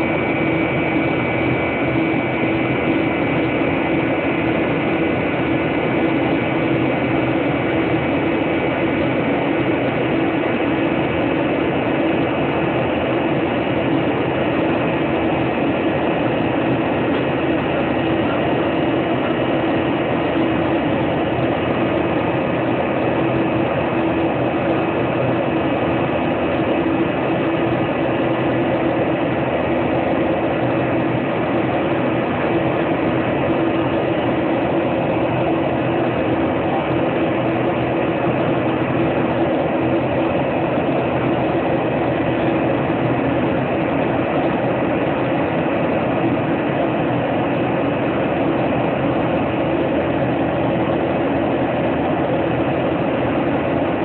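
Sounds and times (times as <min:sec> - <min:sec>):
airliner cabin engine drone: 0:00.0 - 0:54.0.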